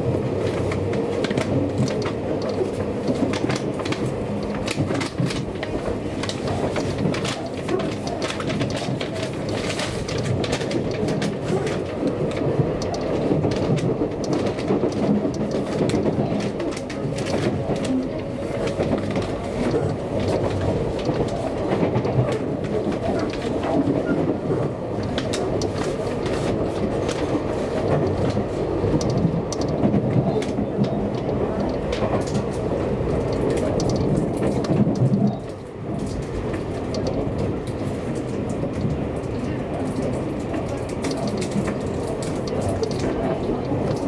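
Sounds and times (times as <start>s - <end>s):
train wheels and motors rumbling: 0.0s - 44.0s
wheels clicking over rail joints: 0.0s - 44.0s.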